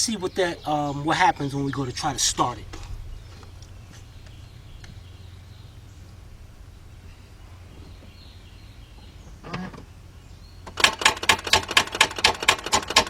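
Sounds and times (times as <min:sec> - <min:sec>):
rapid starter clicking: 0:01.1 - 0:10.0, 0:10.6 - 0:13.0.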